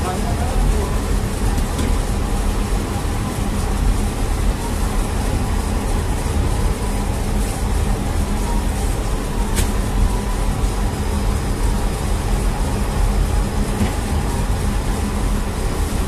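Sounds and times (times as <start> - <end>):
oven and machinery rumbling: 0.0 - 16.0.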